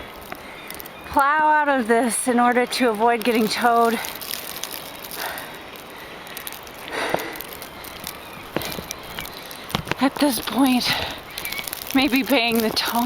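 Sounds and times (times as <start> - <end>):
snow crackling against plastic bag: 0.0 - 13.0.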